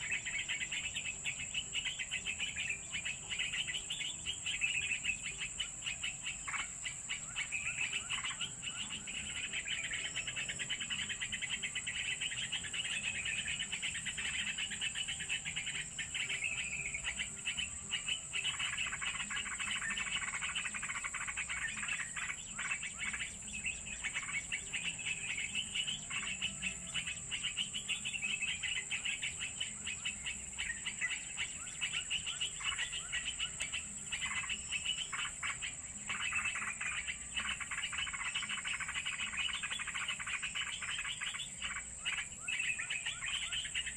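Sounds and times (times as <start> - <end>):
bird chirps and calls: 0.0 - 43.9.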